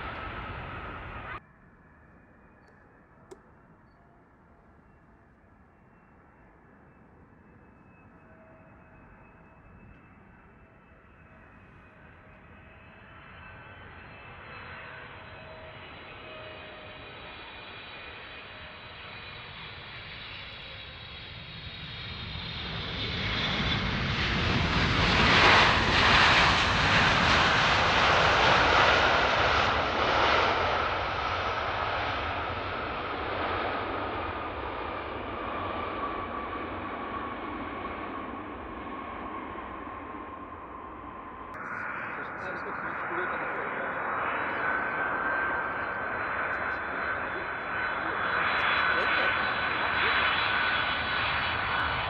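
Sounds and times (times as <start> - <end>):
jet airliner engines whining: 0.0 - 2.7, 4.6 - 52.0.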